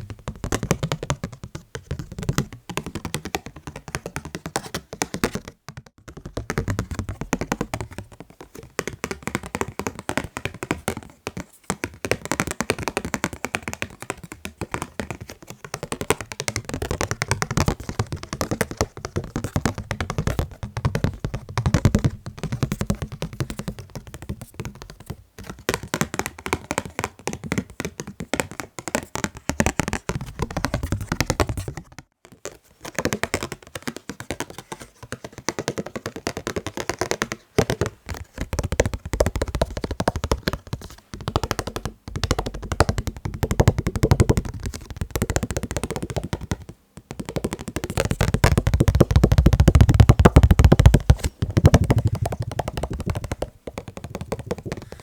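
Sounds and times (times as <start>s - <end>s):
rapid hand tapping: 0.0s - 55.0s.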